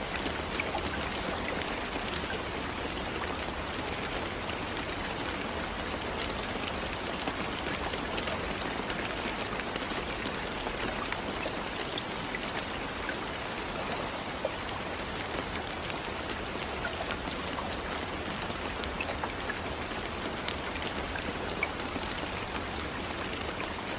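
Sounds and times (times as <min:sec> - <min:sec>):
raindrops ticking: 0:00.0 - 0:23.9
steady rain hiss: 0:00.0 - 0:23.9.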